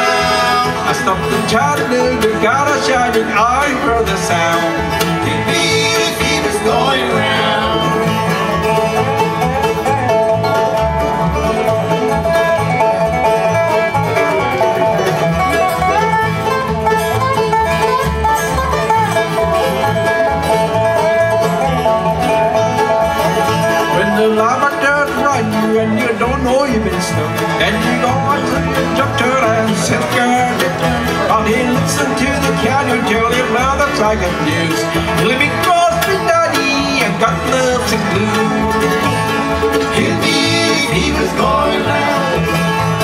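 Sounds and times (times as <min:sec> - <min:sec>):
mandolin: 0:00.0 - 0:43.0
resonator guitar: 0:00.0 - 0:43.0
strummed acoustic guitars: 0:00.0 - 0:43.0.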